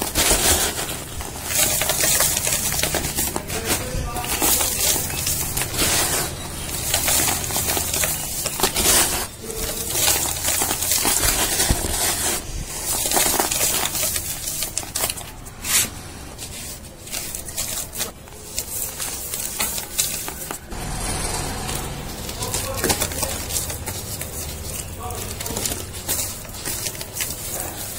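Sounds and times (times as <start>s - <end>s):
cardboard being crushed: 0.0s - 27.9s.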